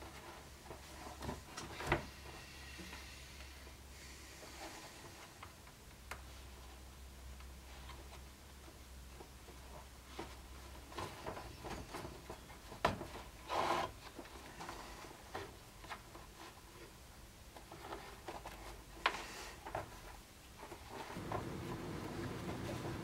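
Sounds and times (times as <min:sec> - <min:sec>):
rustling of needles and thread: 0:00.0 - 0:23.0.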